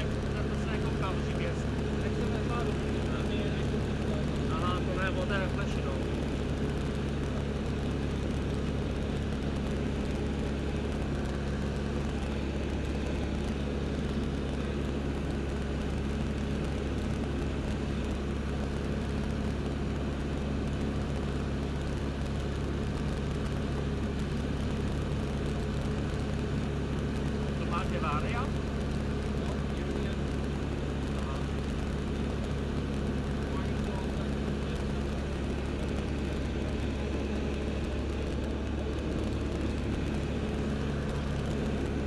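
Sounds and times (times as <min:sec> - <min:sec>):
aircraft engine and propeller: 0:00.0 - 0:42.0.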